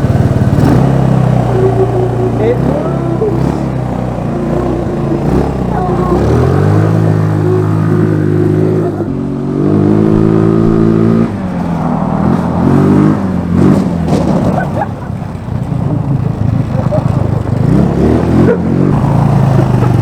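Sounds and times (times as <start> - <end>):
scooter engine revving: 0.0 - 20.0.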